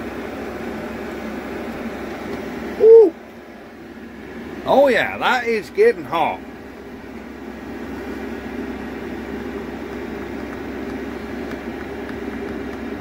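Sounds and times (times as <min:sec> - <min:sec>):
air heater blower fan hum: 0:00.0 - 0:13.0.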